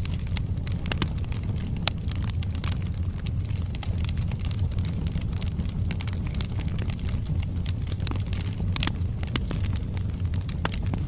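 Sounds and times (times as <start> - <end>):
burning logs crackling and popping: 0.0 - 11.0
flames rumbling: 0.0 - 11.0.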